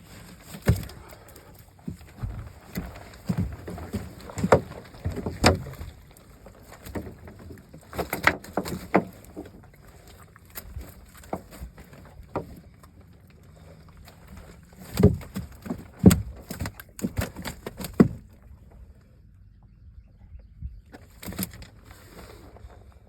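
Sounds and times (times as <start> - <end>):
knocks and thumps against boat: 0.0 - 18.7.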